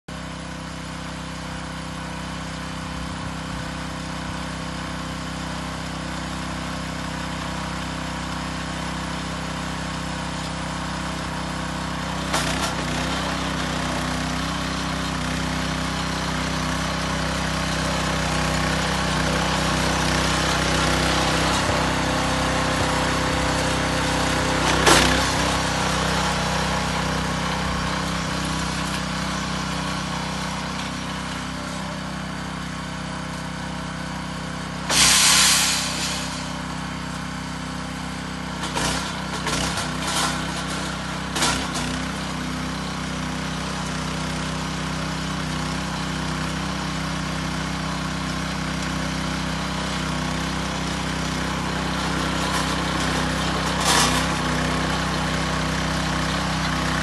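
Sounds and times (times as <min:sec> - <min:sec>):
tiller engine running: 0:00.1 - 0:57.0.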